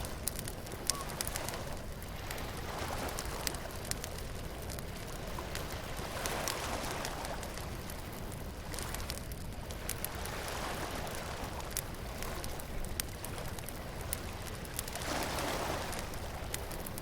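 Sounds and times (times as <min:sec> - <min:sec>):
bonfire crackling and popping: 0:00.0 - 0:17.0
surf waves: 0:00.0 - 0:17.0.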